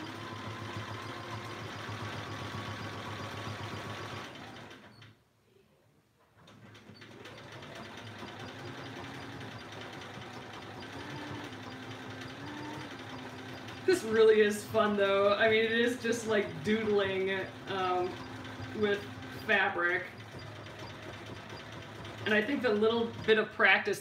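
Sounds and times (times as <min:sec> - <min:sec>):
sewing machine stitching: 0:00.0 - 0:05.2, 0:06.3 - 0:24.0.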